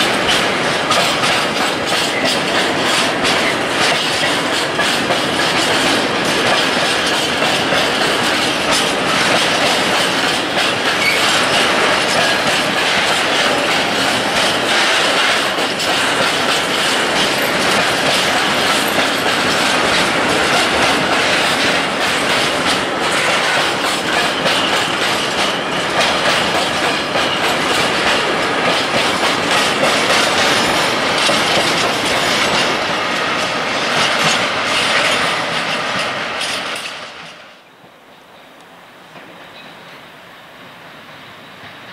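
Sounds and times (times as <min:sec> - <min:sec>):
wheels clicking over rail joints: 0:00.0 - 0:37.6
train wheels rumbling on rails: 0:00.0 - 0:41.9.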